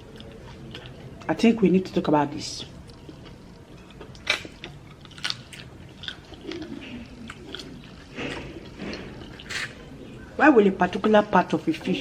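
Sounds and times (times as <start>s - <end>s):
chewing with crunches: 0.0s - 2.0s, 2.6s - 11.2s.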